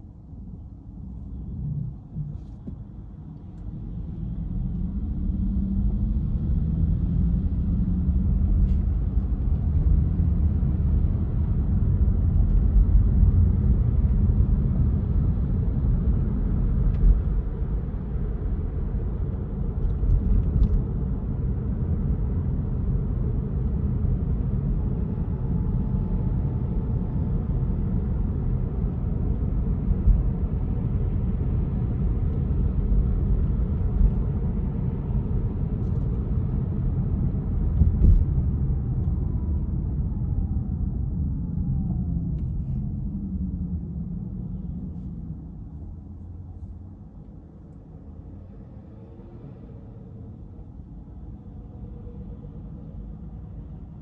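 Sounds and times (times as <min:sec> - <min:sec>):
car engine rumble and road noise: 0:00.0 - 0:54.0.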